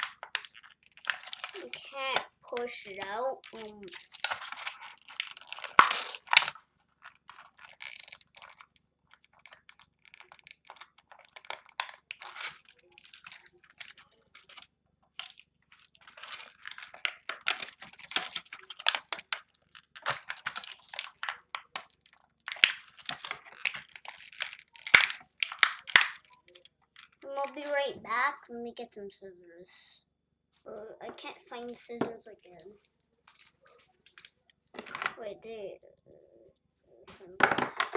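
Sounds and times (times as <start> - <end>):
plastic packaging crinkling: 0.0 - 27.9, 31.1 - 35.3, 37.1 - 37.9.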